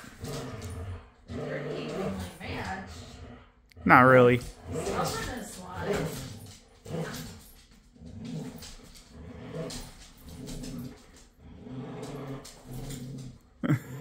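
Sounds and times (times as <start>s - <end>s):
dogs play growling: 0.0s - 14.0s.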